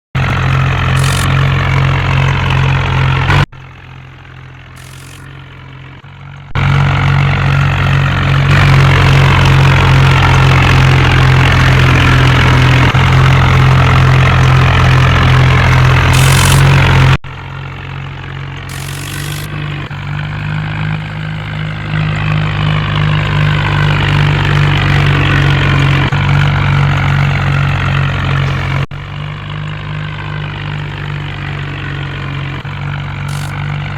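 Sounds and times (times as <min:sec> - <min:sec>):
vehicle engine drone: 0:00.2 - 0:33.9.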